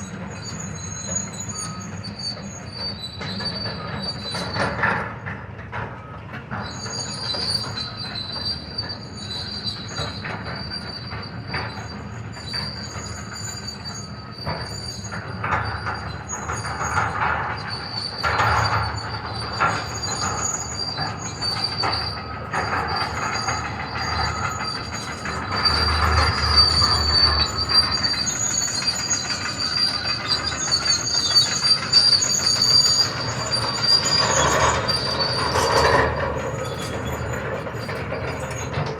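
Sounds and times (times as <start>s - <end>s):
high metallic squeal: 0.0s - 5.0s, 6.5s - 38.9s.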